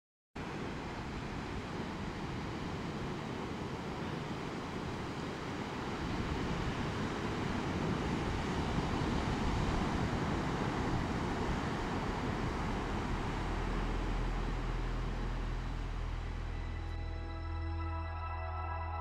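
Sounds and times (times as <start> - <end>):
wind on microphone: 1.4 - 16.6.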